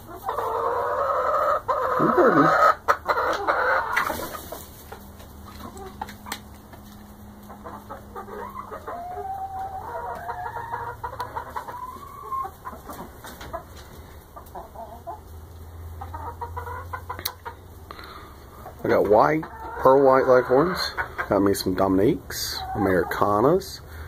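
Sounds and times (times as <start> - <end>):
hens clucking and calling: 0.0 - 24.0.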